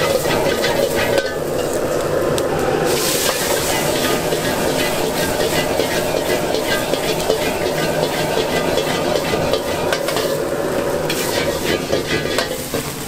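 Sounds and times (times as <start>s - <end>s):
metal ladle scraping wok: 0.0s - 2.0s, 2.9s - 13.0s
food sizzling: 0.0s - 13.0s
gas burner roar: 0.0s - 13.0s.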